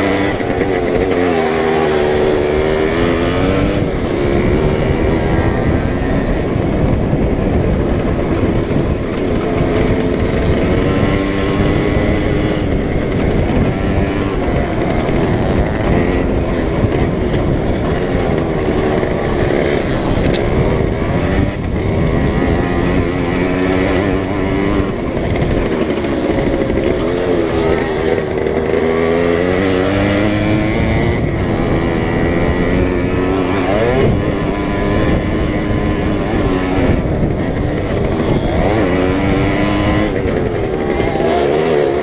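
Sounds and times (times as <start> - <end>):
moped engine revving: 0.0 - 42.0
steady rushing noise: 0.0 - 42.0.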